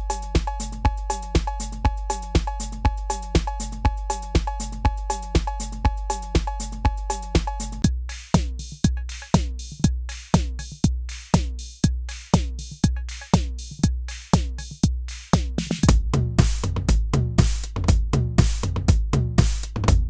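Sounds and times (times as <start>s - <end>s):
drum machine beat: 0.0s - 20.0s.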